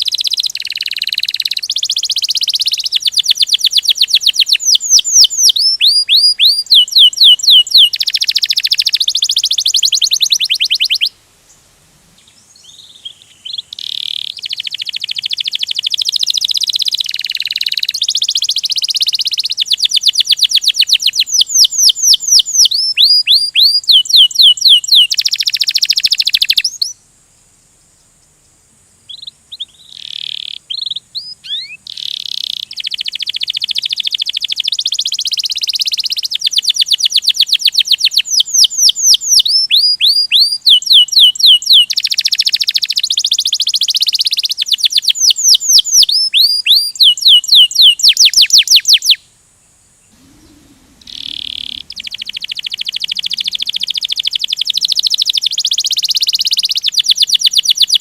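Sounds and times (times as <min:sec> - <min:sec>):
canary singing trills: 0:00.0 - 0:11.6, 0:12.2 - 0:27.0, 0:29.1 - 0:49.3, 0:50.0 - 0:58.0.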